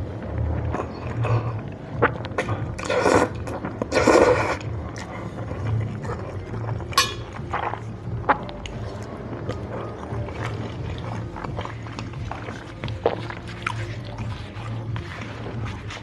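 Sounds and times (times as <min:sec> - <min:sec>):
wet chewing noises: 0:00.0 - 0:16.0.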